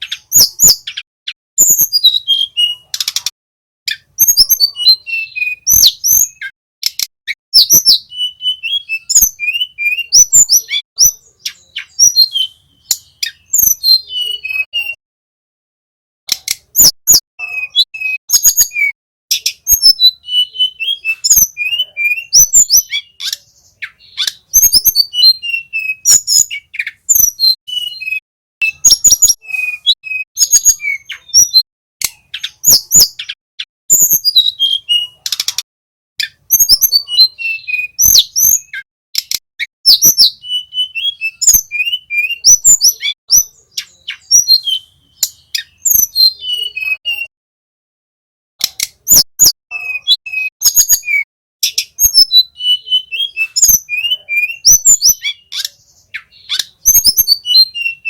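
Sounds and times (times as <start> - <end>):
bird song: 0.0 - 15.0, 16.3 - 47.3, 48.6 - 58.0.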